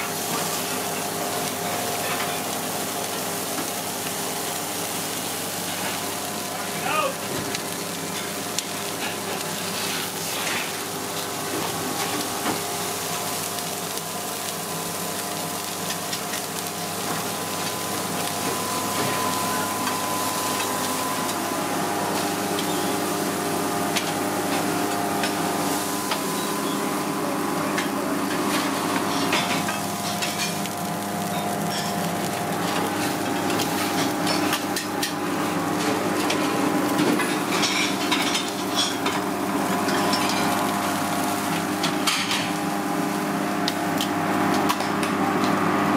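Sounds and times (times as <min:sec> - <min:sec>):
steaks sizzling on a griddle: 0:00.0 - 0:45.3
steady mechanical hum: 0:00.0 - 0:45.9.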